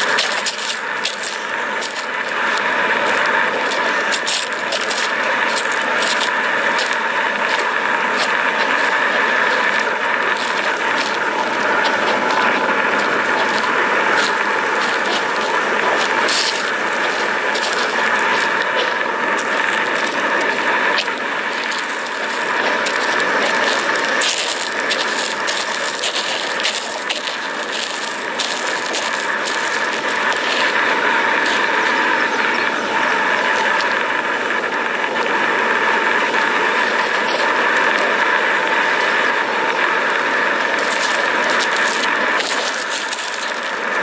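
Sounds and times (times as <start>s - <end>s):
crackling: 0.0s - 44.0s.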